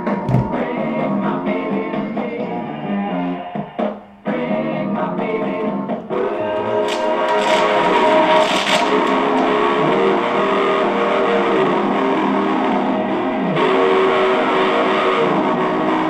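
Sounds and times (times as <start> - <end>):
guitar music from cassette player: 0.0 - 3.0, 4.3 - 16.0.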